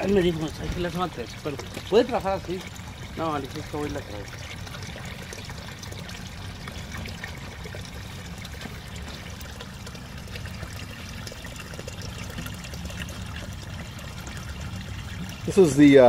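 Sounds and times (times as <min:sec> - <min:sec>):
water pouring and trickling: 0:00.0 - 0:16.0.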